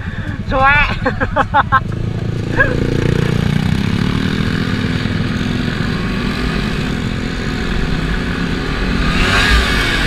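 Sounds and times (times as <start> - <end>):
motorcycle engines: 0.0 - 10.0.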